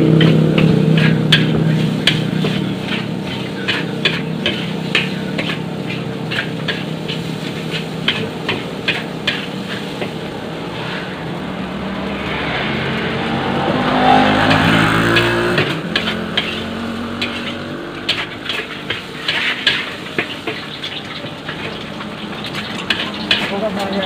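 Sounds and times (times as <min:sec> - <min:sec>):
metal spatula scraping a wok: 0:00.1 - 0:11.4, 0:12.0 - 0:24.0.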